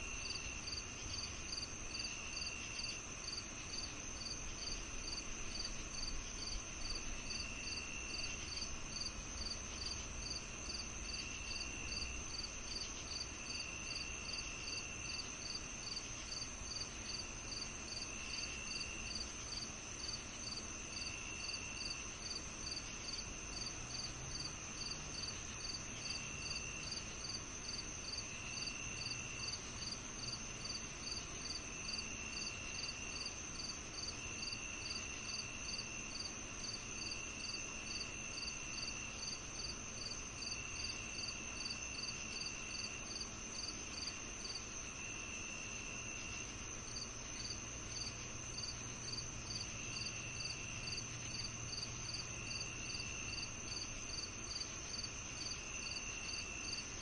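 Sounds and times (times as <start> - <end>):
cricket chirping: 0.0 - 57.0
steady high cricket trill: 0.1 - 57.0.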